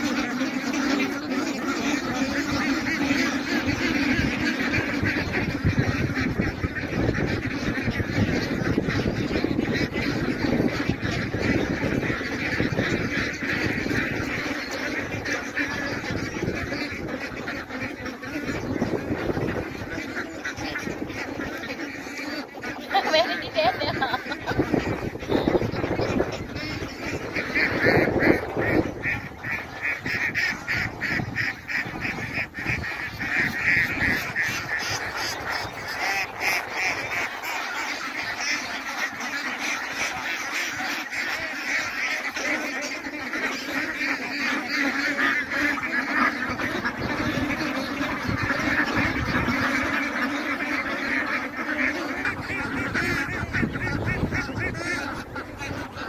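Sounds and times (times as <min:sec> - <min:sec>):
ducks quacking: 0:00.0 - 0:56.0.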